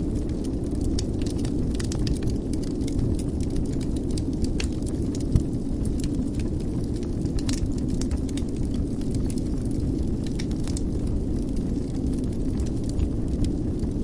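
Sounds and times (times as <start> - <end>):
fire crackling in fireplace: 0.0 - 14.0.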